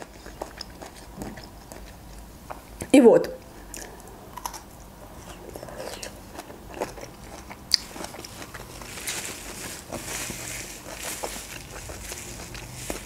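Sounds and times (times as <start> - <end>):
person chewing broccoli: 0.0 - 13.0.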